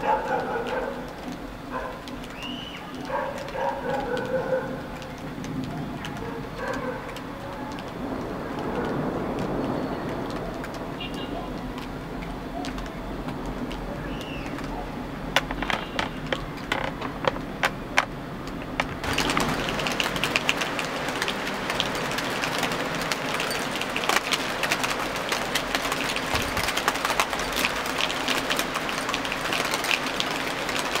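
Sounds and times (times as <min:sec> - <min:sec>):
rain on a hard surface: 0:00.0 - 0:31.0.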